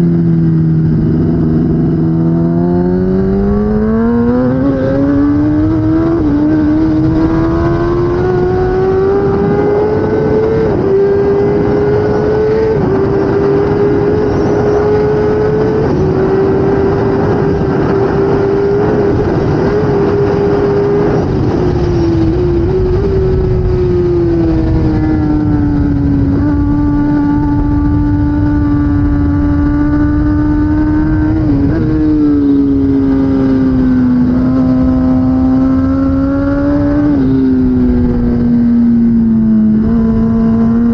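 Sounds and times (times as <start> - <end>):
motorcycle engine at speed: 0.0 - 40.9
wind noise: 0.0 - 40.9.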